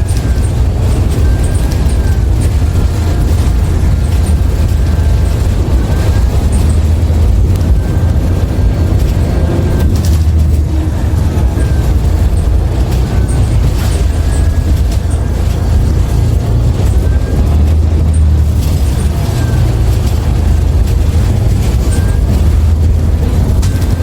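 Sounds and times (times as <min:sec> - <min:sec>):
bus body rattling: 0:00.0 - 0:24.0
bus engine drone: 0:00.0 - 0:24.0.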